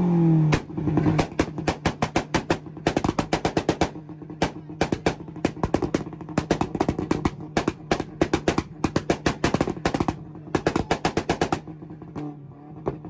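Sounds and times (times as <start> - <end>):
car engine on launch limiter: 0.0 - 13.0
exhaust pops and bangs: 0.4 - 13.0.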